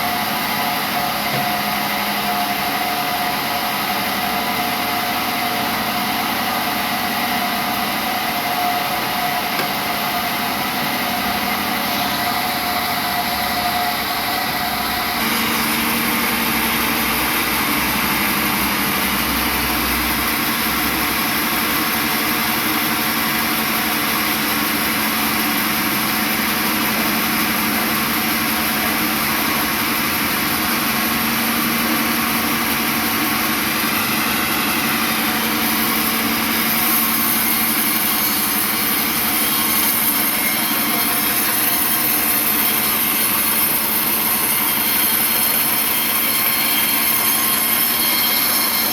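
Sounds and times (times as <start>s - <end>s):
sawmill machinery humming: 0.0s - 48.9s.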